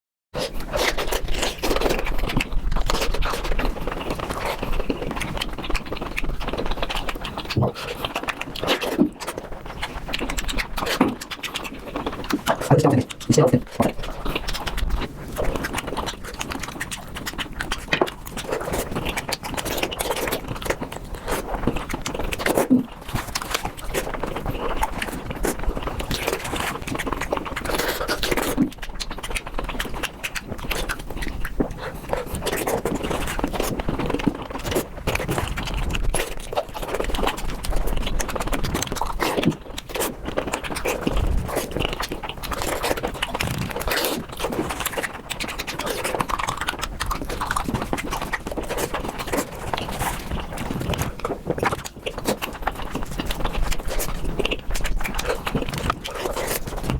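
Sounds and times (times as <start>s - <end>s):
crunching and chewing: 0.4s - 56.9s.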